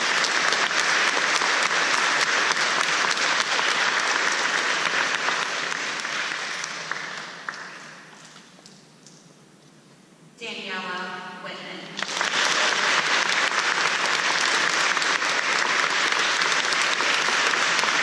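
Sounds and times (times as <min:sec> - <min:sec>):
audience clapping: 0:00.0 - 0:08.7, 0:12.0 - 0:18.0.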